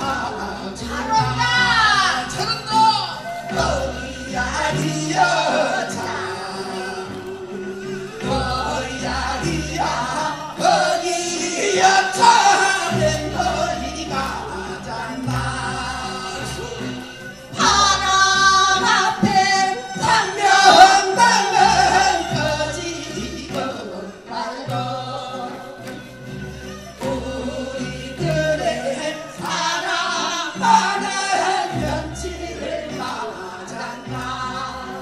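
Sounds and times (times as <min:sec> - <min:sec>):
instrumental accompaniment with bass: 0:00.0 - 0:35.0
voices singing into microphones: 0:00.0 - 0:35.0.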